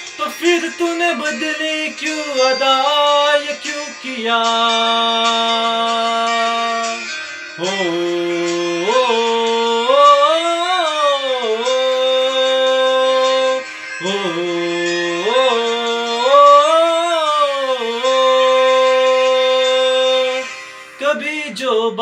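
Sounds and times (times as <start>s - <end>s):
man singing wordless melody: 0.1s - 22.0s.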